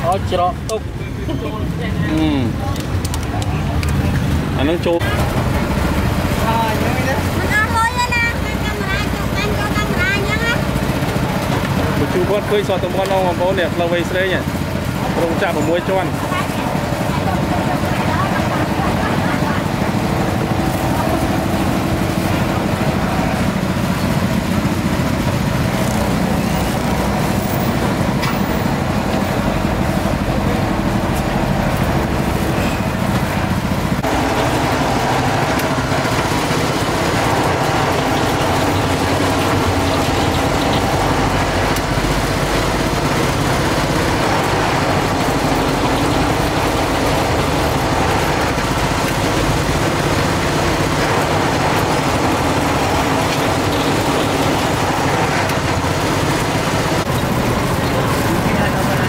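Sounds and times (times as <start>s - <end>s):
street traffic noise: 0.0s - 59.0s.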